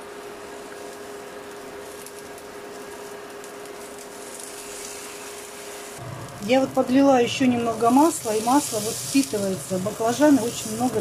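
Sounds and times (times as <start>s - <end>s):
food sizzling in oil: 0.0s - 11.0s
steady hum: 0.0s - 11.0s.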